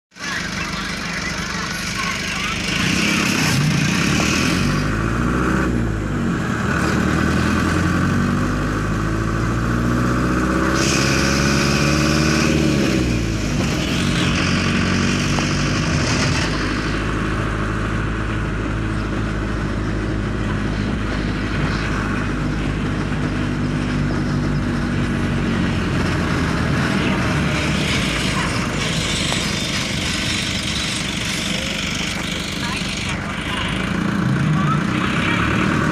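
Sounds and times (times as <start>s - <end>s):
vehicle engine running: 0.1s - 35.9s.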